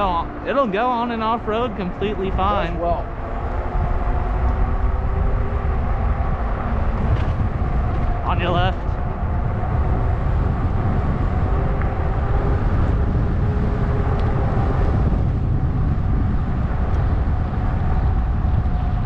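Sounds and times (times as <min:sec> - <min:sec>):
fat tyres rolling on trail: 0:00.0 - 0:19.0
wind on microphone: 0:00.0 - 0:19.0.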